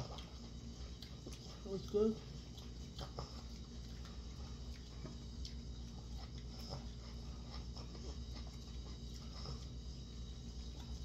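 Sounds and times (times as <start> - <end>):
person chewing noodles: 0.0 - 11.0
steady low hum: 0.0 - 11.0.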